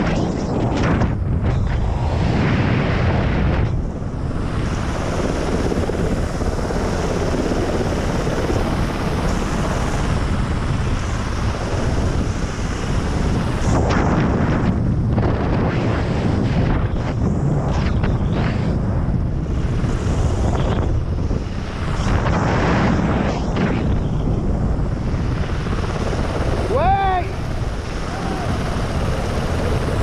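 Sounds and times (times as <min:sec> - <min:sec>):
helicopter rotors rumbling: 0:00.0 - 0:30.0
wind buffeting microphone: 0:00.0 - 0:30.0.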